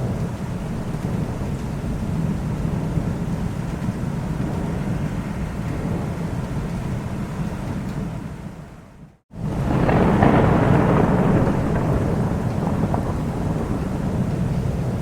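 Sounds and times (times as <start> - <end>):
low rumble of thunder: 0.0 - 15.0
rain: 0.0 - 15.0.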